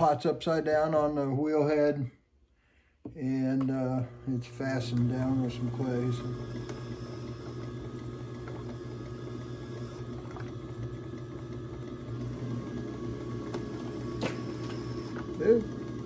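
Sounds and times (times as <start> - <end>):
potter's wheel motor hum: 3.0 - 16.0.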